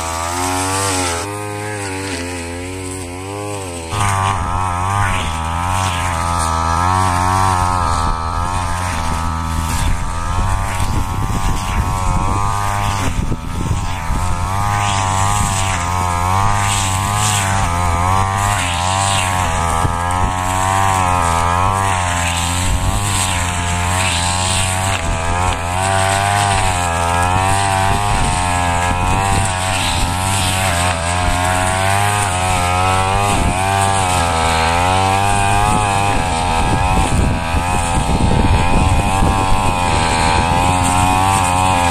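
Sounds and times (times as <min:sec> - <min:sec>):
brush cutter engine running: 0:00.0 - 0:41.9.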